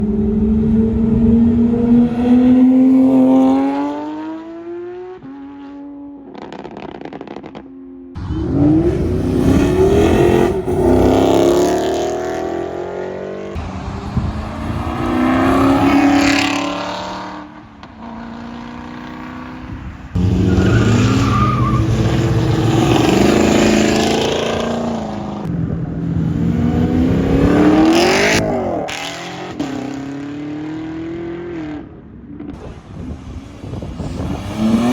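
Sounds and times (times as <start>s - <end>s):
car engines accelerating hard: 0.0s - 5.8s, 8.2s - 34.9s.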